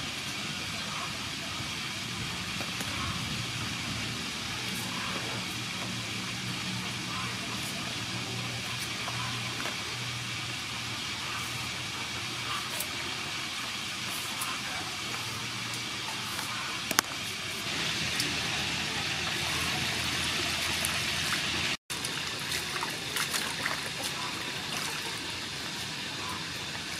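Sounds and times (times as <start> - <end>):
steady background hum: 0.0 - 26.9.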